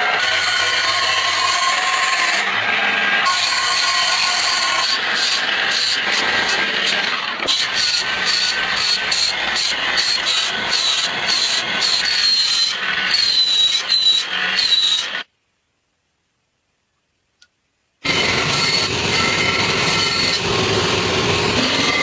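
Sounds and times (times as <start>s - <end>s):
power tool grinding steel: 0.0s - 15.3s, 18.0s - 22.0s.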